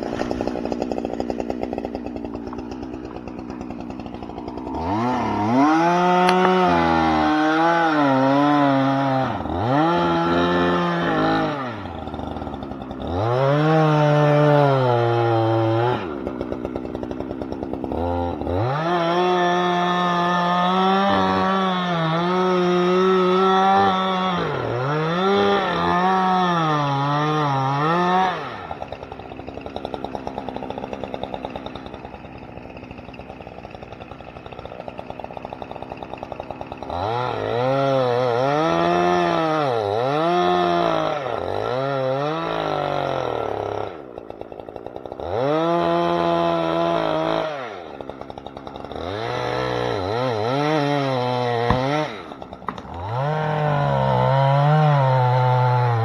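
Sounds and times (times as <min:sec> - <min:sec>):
chainsaw cutting: 0:00.0 - 0:56.0.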